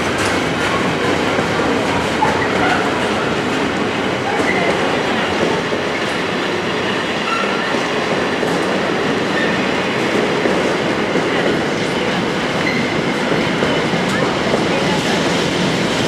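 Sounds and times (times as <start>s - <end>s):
freight train wheels clattering: 0.0s - 16.0s.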